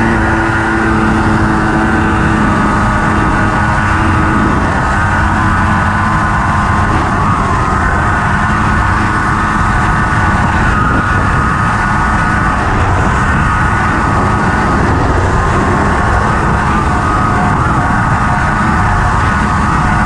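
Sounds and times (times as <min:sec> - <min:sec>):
dune buggy engine at high revs: 0:00.0 - 0:20.0
low rumble: 0:00.0 - 0:20.0.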